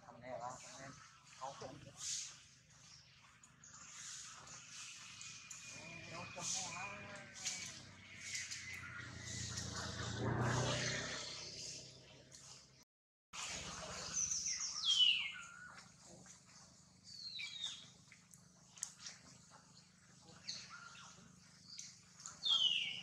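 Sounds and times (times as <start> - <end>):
birds chirping: 0.0 - 12.8, 13.9 - 18.5, 19.4 - 23.0.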